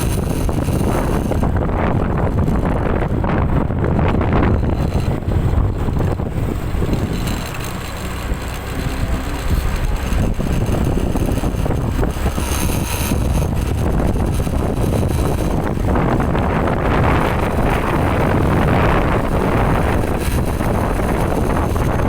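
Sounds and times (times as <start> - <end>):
road vehicle rumble: 0.0 - 22.0
wind buffeting microphone: 0.0 - 22.0.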